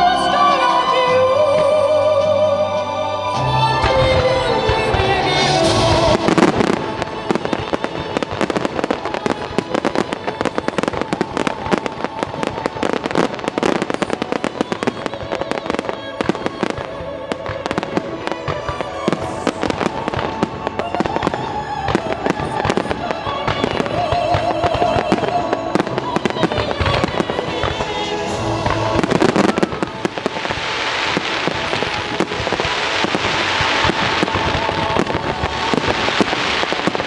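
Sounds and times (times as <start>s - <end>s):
show music with singing: 0.0s - 37.0s
fireworks popping and crackling: 3.3s - 37.0s.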